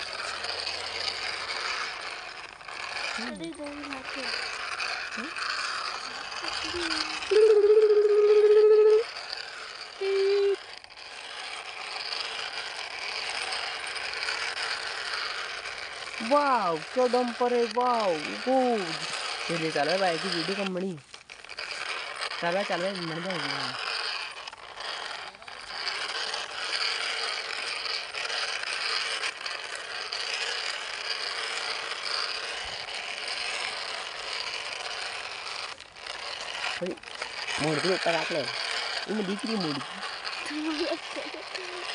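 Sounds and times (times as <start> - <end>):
toy truck wheels rattling on dirt: 0.0 - 41.9.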